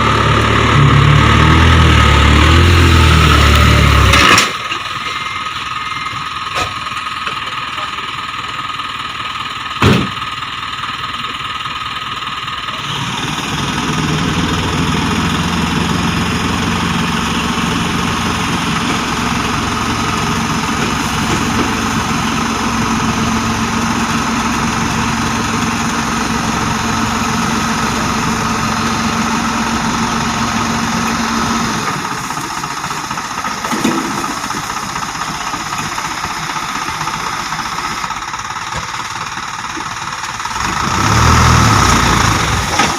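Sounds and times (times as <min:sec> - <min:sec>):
diesel engine revving and idling: 0:00.0 - 0:42.9.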